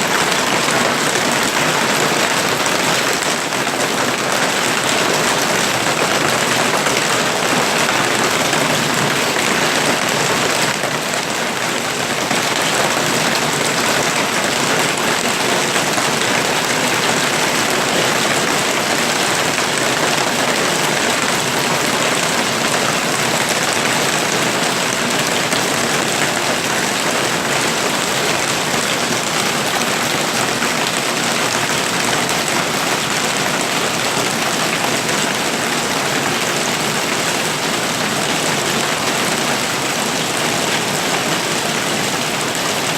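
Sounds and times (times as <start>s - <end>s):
hail and heavy rain pelting: 0.0s - 42.9s.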